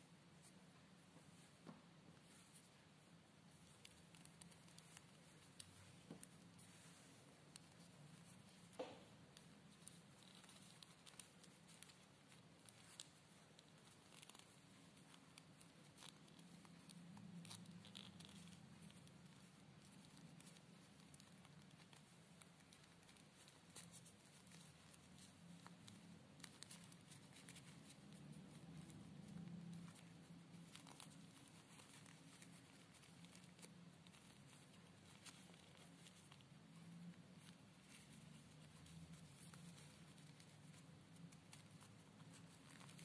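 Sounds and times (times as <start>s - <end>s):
fabric rustling: 0.1s - 43.0s.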